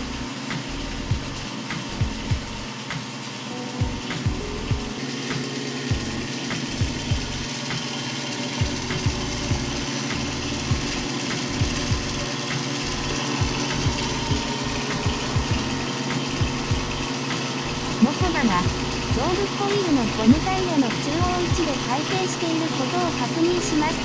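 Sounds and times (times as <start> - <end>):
band saw motor humming: 0.0 - 24.0.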